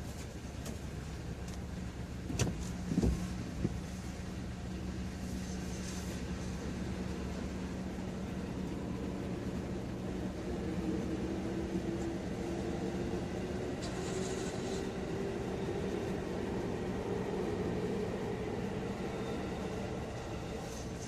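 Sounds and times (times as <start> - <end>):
electric train motor hum: 2.9 - 21.0.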